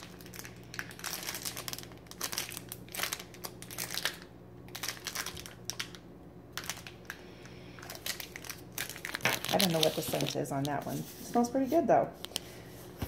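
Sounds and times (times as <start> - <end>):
plastic wrapping crackling: 0.0 - 11.1.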